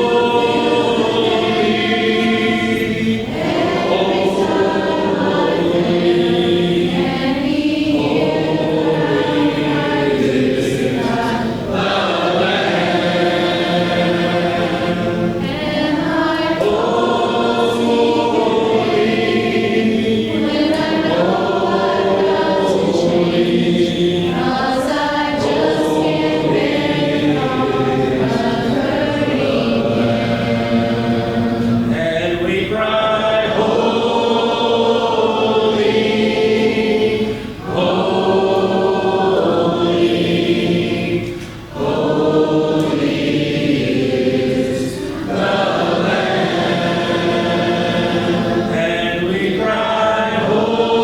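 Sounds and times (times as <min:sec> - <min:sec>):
congregation singing a hymn: 0:00.0 - 0:51.0.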